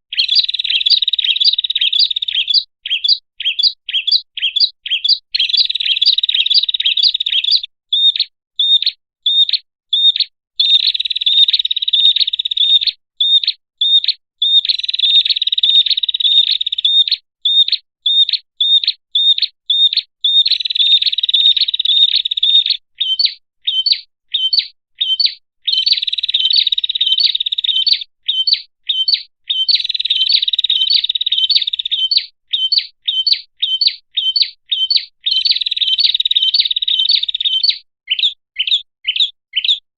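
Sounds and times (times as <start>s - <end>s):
bird trilling and chirping: 0.1s - 39.8s.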